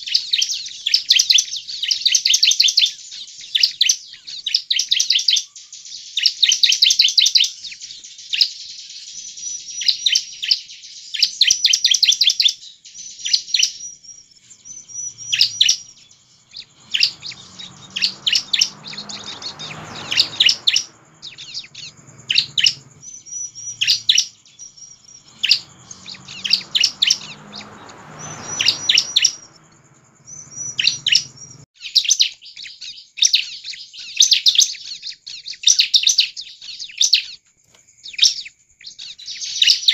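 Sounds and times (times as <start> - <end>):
bird singing rattling trills: 0.0 - 39.9.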